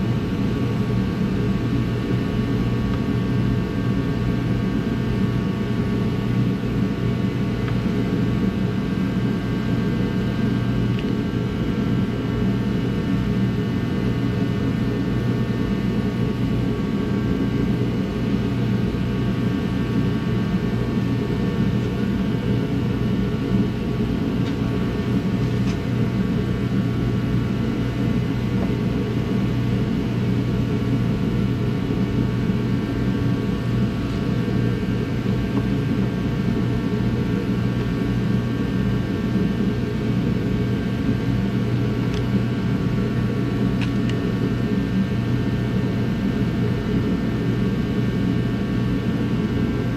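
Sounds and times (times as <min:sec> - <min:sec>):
motor running with low drone: 0:00.0 - 0:49.9.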